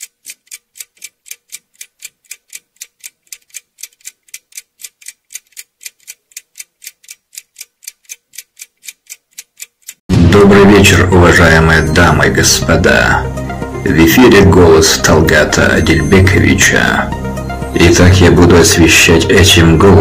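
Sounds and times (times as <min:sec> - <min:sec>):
clock-like ticks: 0:00.0 - 0:10.0, 0:11.2 - 0:20.0.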